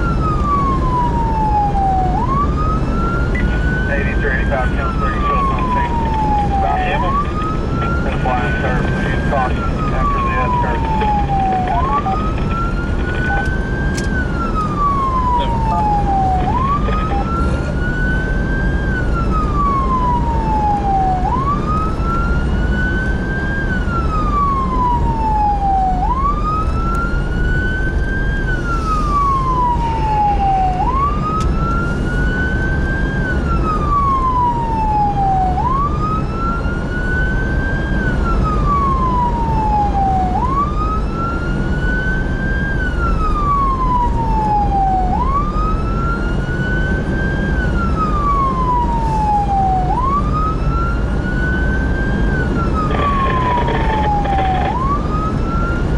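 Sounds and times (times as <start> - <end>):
engine and road rumble: 0.0 - 55.9
siren wailing: 0.0 - 55.9.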